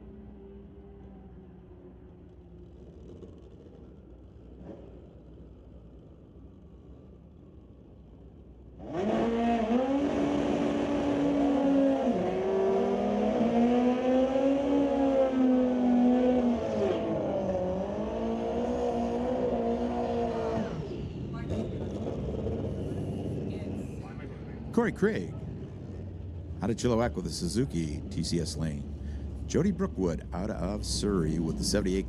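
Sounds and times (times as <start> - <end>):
motorcycle engines accelerating hard: 2.2 - 5.4, 8.8 - 32.0.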